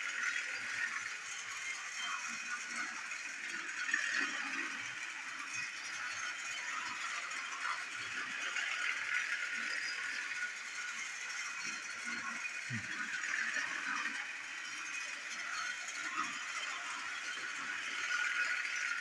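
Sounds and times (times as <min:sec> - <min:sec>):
toy train motor rattling: 0:00.0 - 0:19.0.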